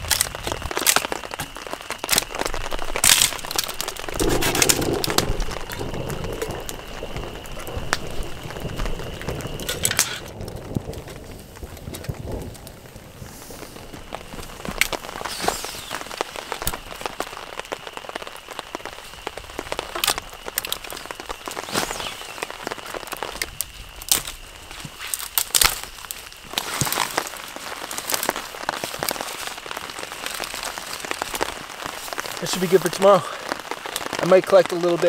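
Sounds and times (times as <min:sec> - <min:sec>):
rain falling on a tarp: 0:00.0 - 0:35.0.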